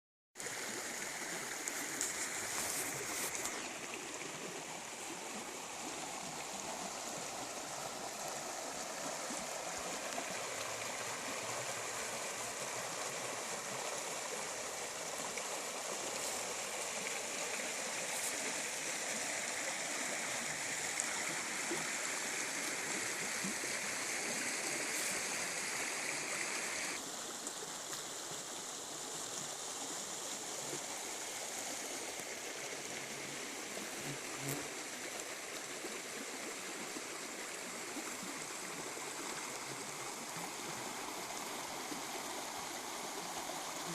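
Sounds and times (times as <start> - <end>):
stream water running: 0.4 - 43.9.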